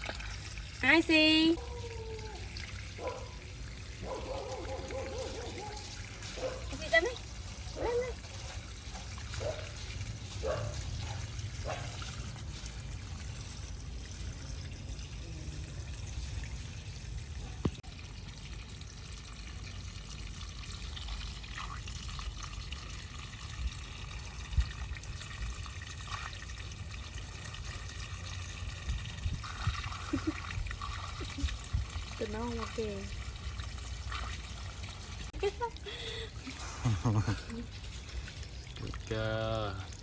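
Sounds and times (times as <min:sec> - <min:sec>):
water trickling and pouring: 0:00.0 - 0:40.0.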